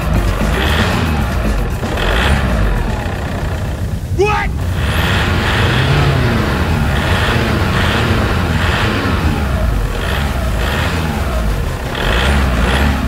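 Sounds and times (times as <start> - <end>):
toy truck motor revving: 0.0 - 13.0
wheels digging into sand: 0.0 - 13.0.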